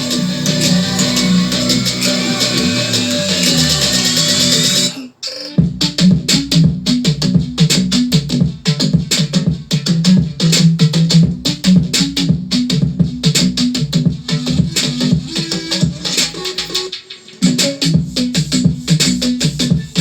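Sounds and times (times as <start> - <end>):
electronic music with drum-machine beat: 0.0 - 20.0.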